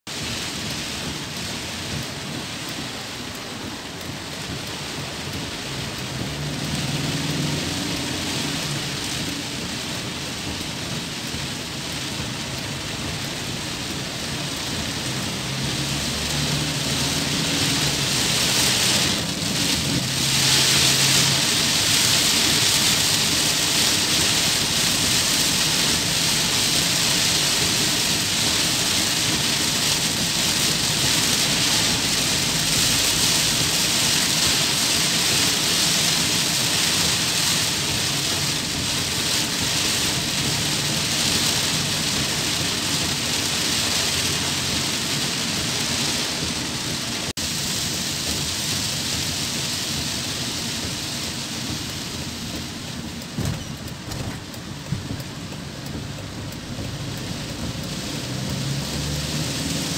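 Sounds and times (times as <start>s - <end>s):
heavy rain on car roof: 0.0s - 59.9s
tyres hissing on wet road: 0.1s - 59.9s.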